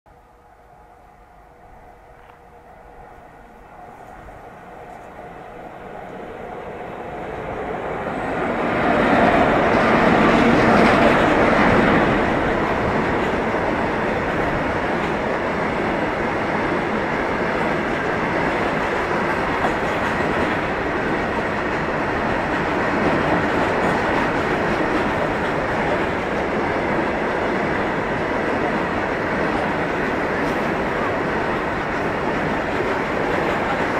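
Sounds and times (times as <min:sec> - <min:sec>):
freight train passing: 0:00.1 - 0:33.9.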